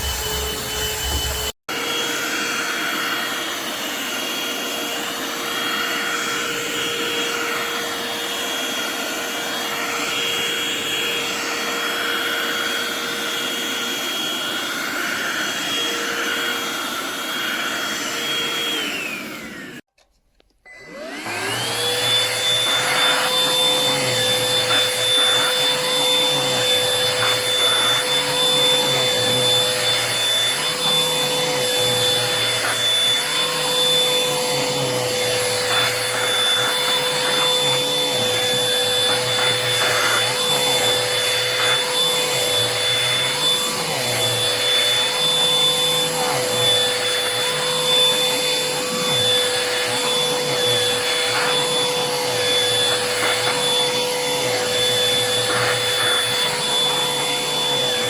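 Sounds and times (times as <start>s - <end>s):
hand vacuum motor whining: 0.0s - 58.0s.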